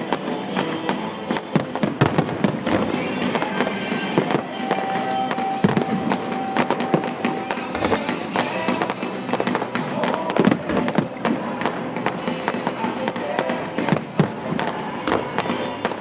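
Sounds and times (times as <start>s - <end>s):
fireworks cracking and popping: 0.0s - 16.0s
music playing: 0.0s - 16.0s.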